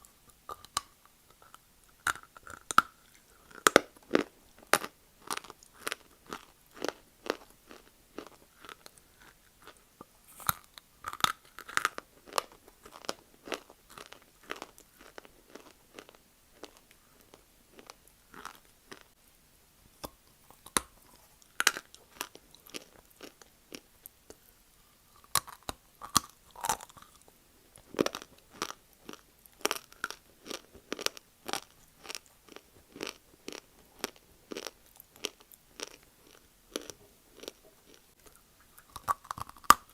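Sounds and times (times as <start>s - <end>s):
crunching and chewing dry clay: 0.2s - 19.2s, 20.0s - 39.9s.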